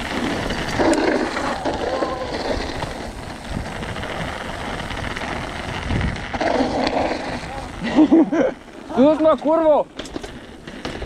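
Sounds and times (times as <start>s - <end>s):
bike rattling: 0.0s - 11.0s
bike tyres on rough path: 0.0s - 11.0s.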